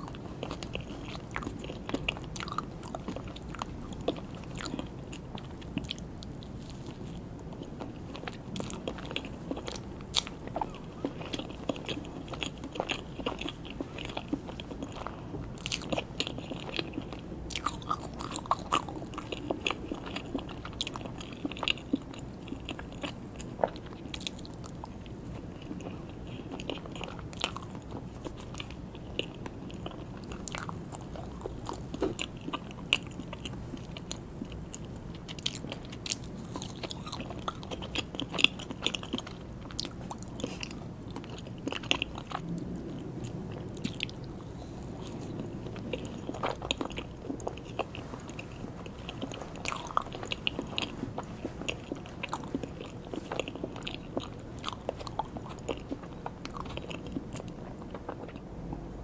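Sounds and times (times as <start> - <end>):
person chewing soft cake: 0.0 - 59.0.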